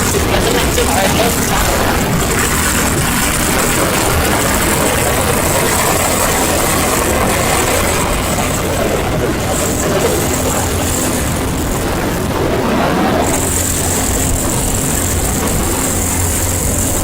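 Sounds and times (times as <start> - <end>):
road and traffic noise: 0.0 - 17.0
truck engine running: 0.0 - 17.0.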